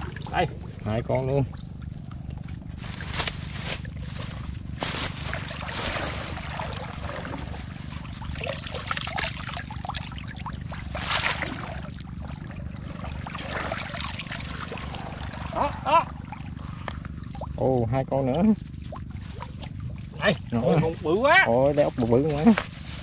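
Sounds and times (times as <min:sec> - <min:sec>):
water sloshing and dripping: 0:00.0 - 0:21.2
water splashes: 0:00.0 - 0:22.2
steady low rumble: 0:00.0 - 0:23.0.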